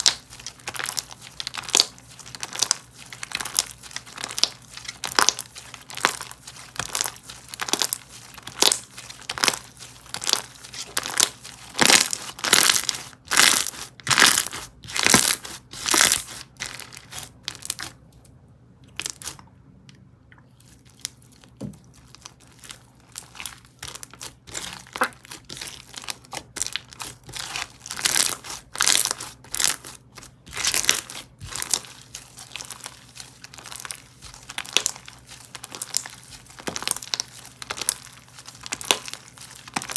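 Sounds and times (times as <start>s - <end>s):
crunchy slime squelches: 0.0s - 39.9s.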